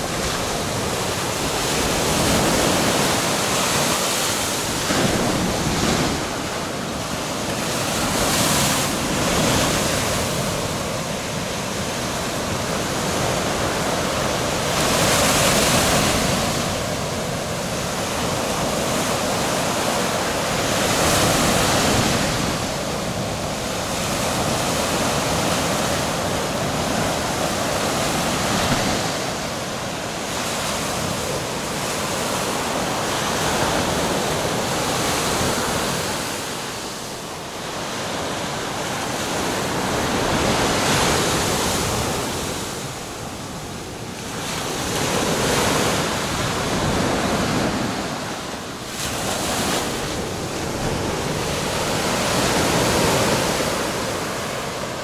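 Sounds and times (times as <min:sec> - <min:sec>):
waves breaking on sandy shore: 0:00.0 - 0:55.0.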